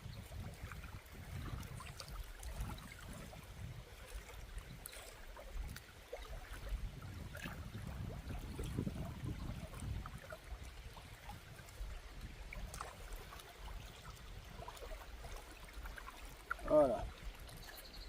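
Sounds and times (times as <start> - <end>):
river water trickling: 0.0 - 18.0.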